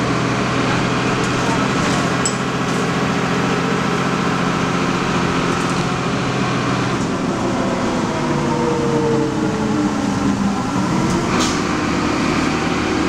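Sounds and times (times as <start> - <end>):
bus engine and drivetrain hum: 0.0 - 13.0
road noise: 0.0 - 13.0.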